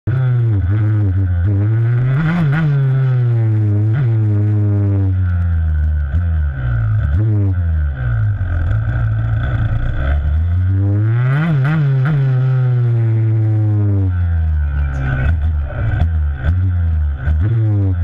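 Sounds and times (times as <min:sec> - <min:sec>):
dirt bike engine revving: 0:00.1 - 0:18.0.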